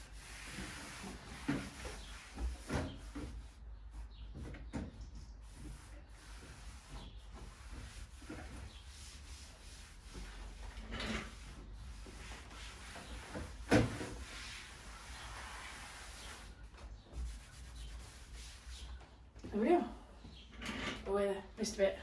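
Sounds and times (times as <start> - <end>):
rubbing on whiteboard: 0.0 - 4.2, 5.2 - 19.1.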